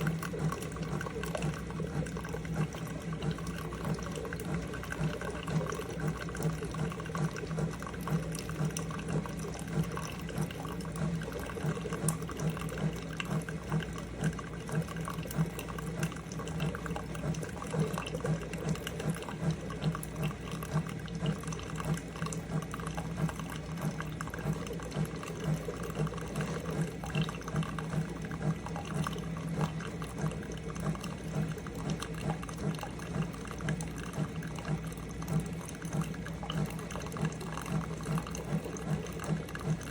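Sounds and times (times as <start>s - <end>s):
coffee maker pump humming: 0.0s - 39.9s
liquid pouring into cup: 0.0s - 39.9s.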